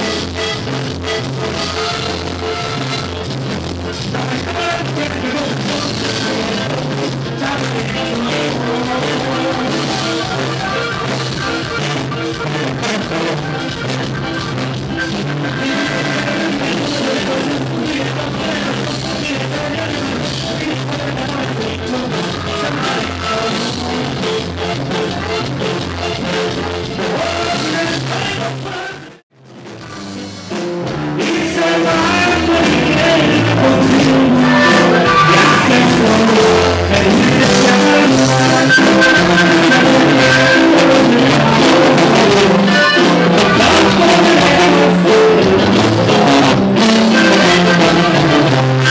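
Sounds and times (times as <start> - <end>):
accordion: 0.0 - 29.2, 29.8 - 48.9
man singing: 0.0 - 29.2, 31.2 - 48.9
drums: 0.0 - 48.9
tuba: 0.0 - 48.9.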